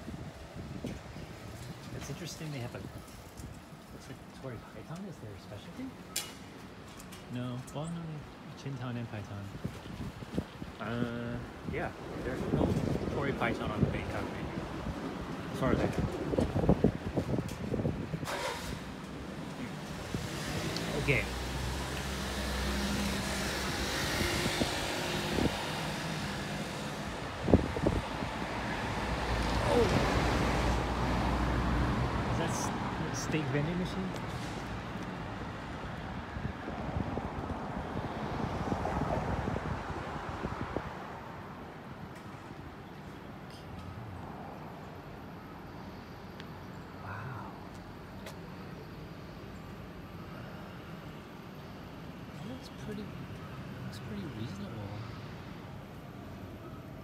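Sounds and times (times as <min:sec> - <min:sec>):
road traffic hum: 0:00.0 - 0:57.0
rush of passing vehicles: 0:08.3 - 0:57.0.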